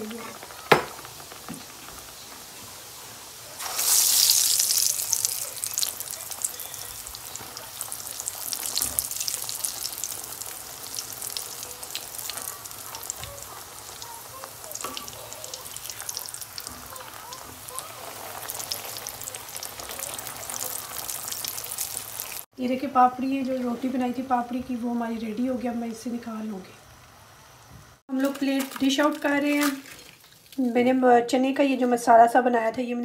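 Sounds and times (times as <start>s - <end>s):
dough deep-frying in hot oil: 0.0s - 31.8s.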